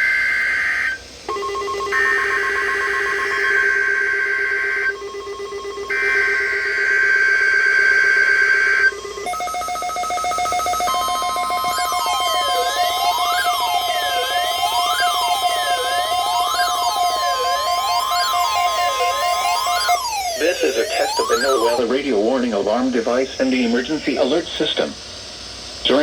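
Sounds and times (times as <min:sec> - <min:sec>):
multi-tone electronic alert tone: 0:01.3 - 0:22.4
buzzing digital data bursts: 0:01.9 - 0:24.4.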